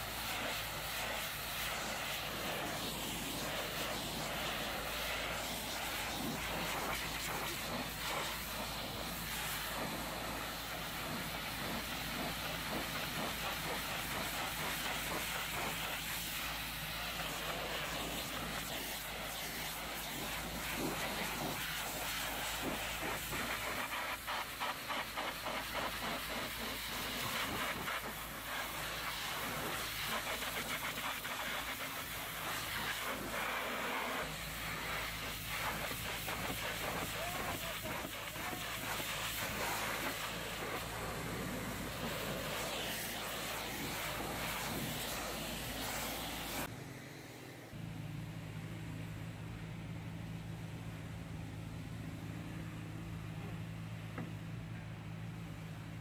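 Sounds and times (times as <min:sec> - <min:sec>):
pressure washer spray on metal: 0:00.0 - 0:46.7.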